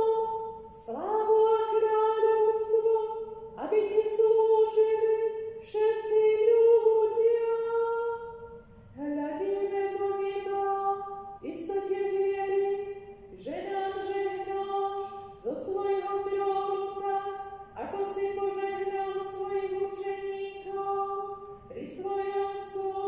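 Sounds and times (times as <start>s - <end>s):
woman chanting unaccompanied: 0.0s - 23.0s.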